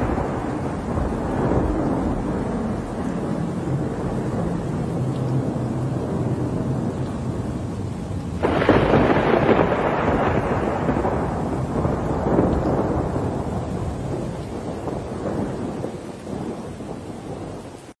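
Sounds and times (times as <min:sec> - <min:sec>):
heavy rain: 0:00.0 - 0:18.0
thunder clap rumbling: 0:00.0 - 0:18.0.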